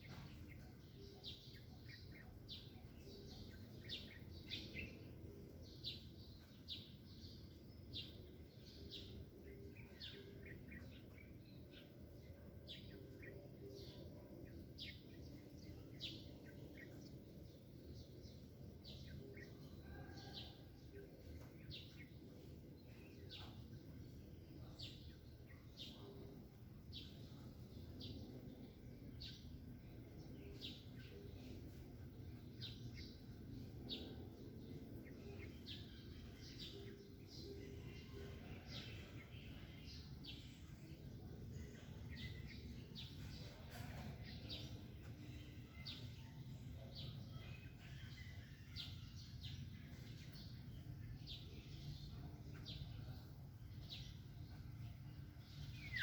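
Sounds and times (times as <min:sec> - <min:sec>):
faint low background noise: 0:00.0 - 0:56.0
small birds chirping: 0:00.0 - 0:56.0.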